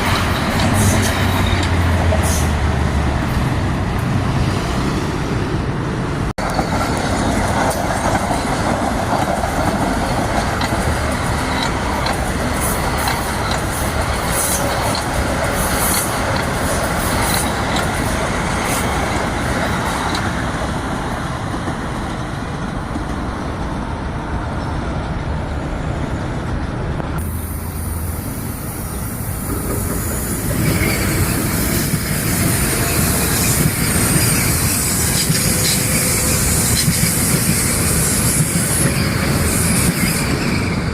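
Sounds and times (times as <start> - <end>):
train rumbling past on tracks: 0.0 - 40.9.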